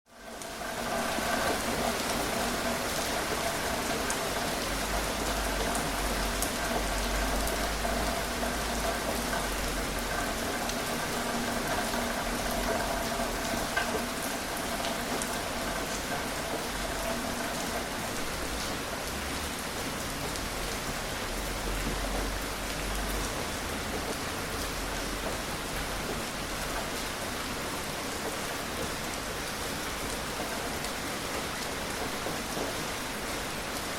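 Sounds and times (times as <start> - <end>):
steady rain falling: 0.1 - 33.9
raindrops ticking: 0.2 - 33.4.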